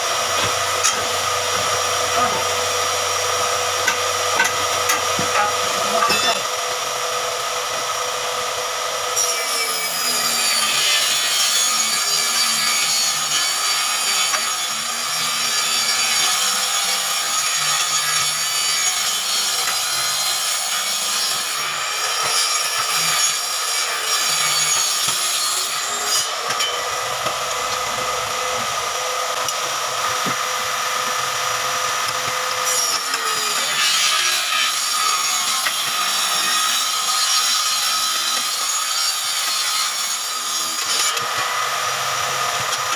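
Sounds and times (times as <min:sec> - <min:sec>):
table saw cutting wood: 0:00.0 - 0:42.9.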